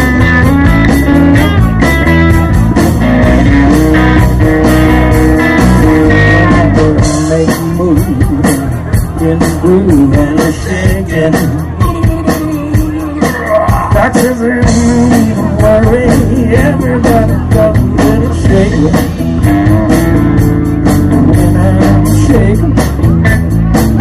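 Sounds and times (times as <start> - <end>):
drum kit: 0.0 - 24.0
electric bass: 0.0 - 24.0
electric guitar: 0.0 - 24.0.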